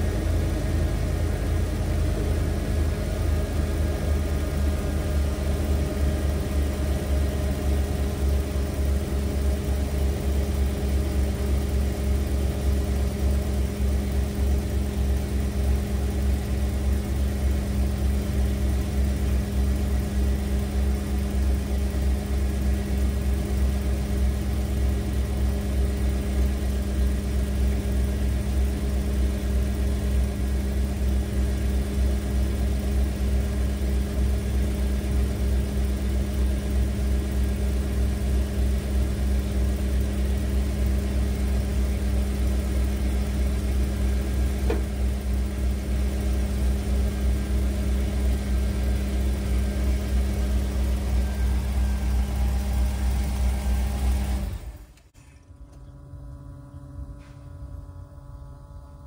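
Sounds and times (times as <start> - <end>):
van engine idling: 0.0 - 59.0.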